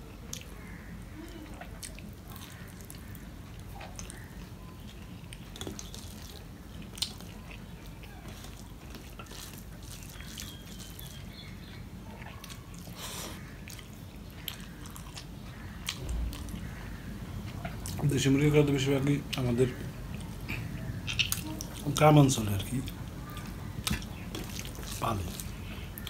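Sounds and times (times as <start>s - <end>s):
steady low hum: 0.0s - 26.0s
man chewing with mouth smacks: 0.1s - 18.1s, 19.3s - 26.0s.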